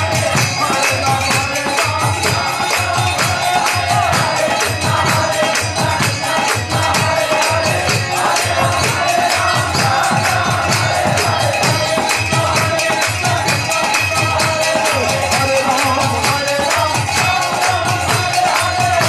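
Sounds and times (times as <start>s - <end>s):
group chanting with lead voice: 0.0s - 19.0s
hand drum beat: 0.0s - 19.0s
harmonium: 0.0s - 19.0s
jingling hand cymbals: 0.0s - 19.0s.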